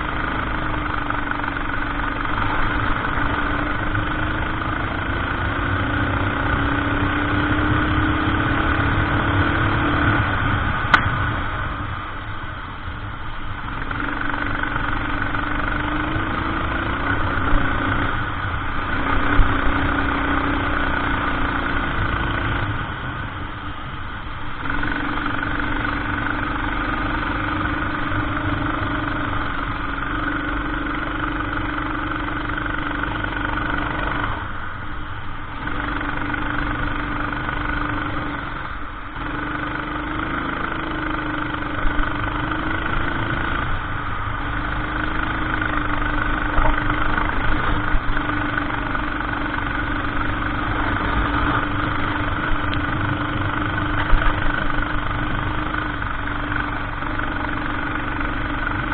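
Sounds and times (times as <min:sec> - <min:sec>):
kart engine running: 0:00.0 - 0:58.9.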